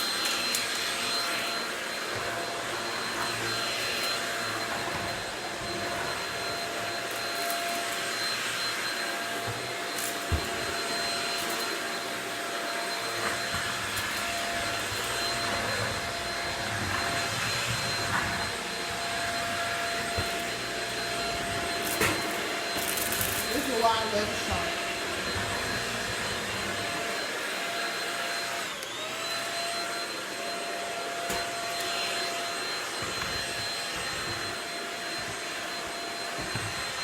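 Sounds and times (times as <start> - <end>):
vacuum cleaner whining: 0.0 - 37.0.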